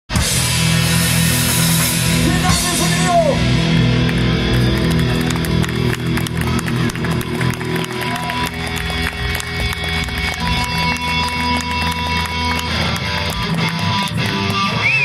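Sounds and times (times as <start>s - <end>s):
rock band playing: 0.1s - 15.0s.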